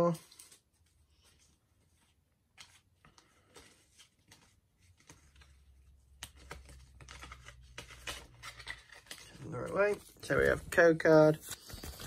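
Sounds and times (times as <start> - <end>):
card pack rustling: 0.0 - 12.0.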